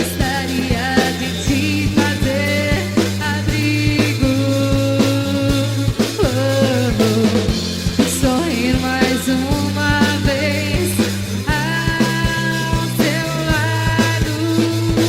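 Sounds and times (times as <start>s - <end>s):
bass line: 0.0s - 15.0s
drum kit beats: 0.0s - 15.0s
electric guitar: 0.0s - 15.0s.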